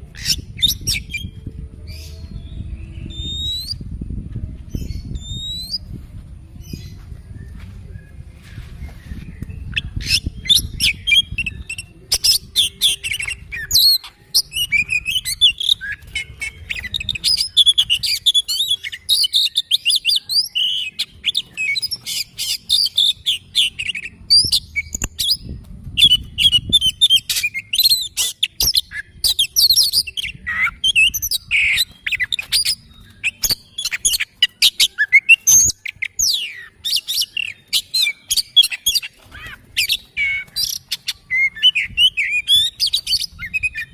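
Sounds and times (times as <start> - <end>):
bird singing whistles and chirps: 0.1 - 4.0, 4.7 - 5.9, 6.6 - 43.9.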